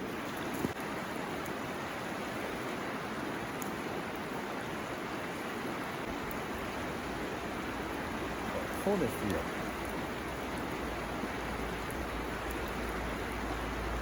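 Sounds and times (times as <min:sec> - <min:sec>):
river flowing: 0:00.0 - 0:14.0.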